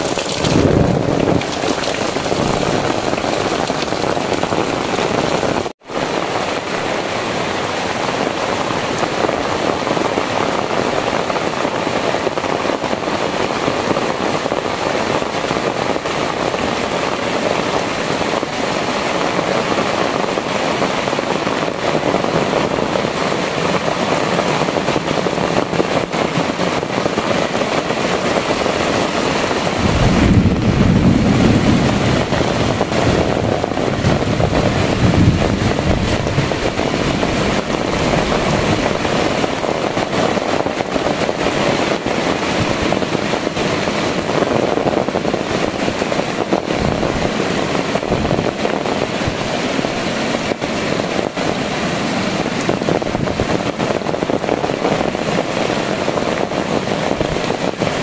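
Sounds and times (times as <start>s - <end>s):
heavy rain on foliage: 0.0s - 58.0s
wind buffeting microphone: 0.0s - 58.0s.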